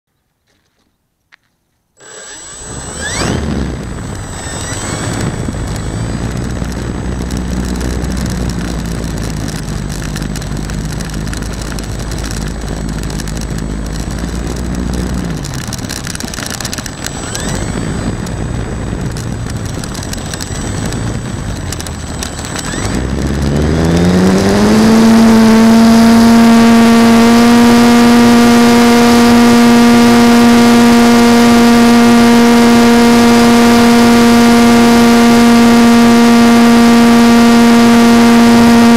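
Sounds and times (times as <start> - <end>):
model airplane motor whine: 2.0 - 38.9
wind and handling rumble: 2.0 - 38.9.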